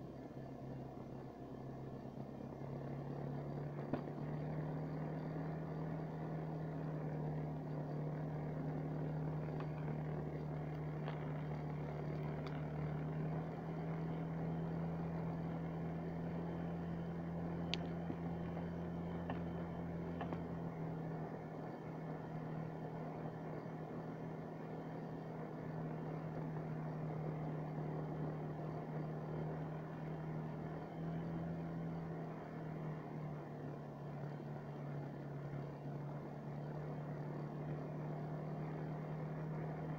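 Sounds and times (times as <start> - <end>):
vehicle engine low drone: 0.0 - 39.9.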